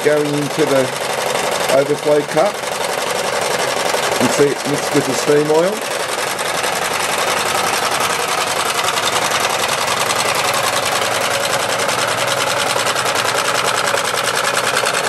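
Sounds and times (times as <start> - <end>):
model steam engine running: 0.0 - 15.0.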